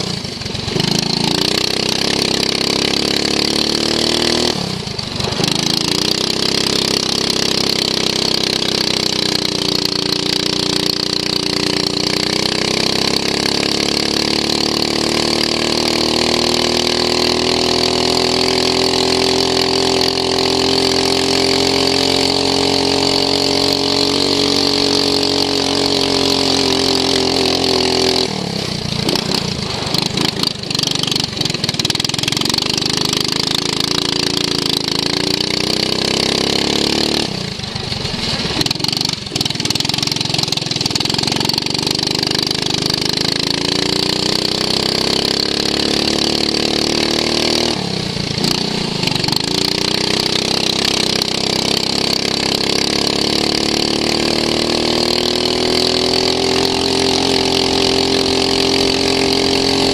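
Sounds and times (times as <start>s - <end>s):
lawn mower engine revving: 0.0s - 59.9s.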